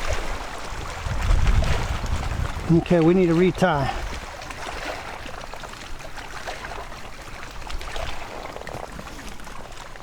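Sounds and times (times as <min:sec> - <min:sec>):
water lapping against hull: 0:00.0 - 0:10.0.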